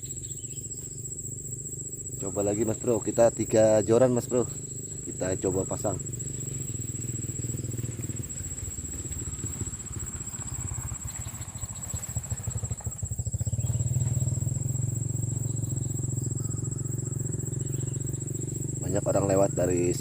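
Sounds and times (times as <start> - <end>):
cricket trill: 0.0 - 20.0
motorcycle engine approaching: 0.0 - 20.0.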